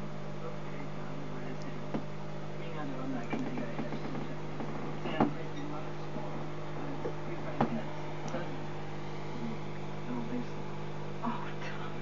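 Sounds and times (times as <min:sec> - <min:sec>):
aquarium equipment humming: 0:00.0 - 0:12.0.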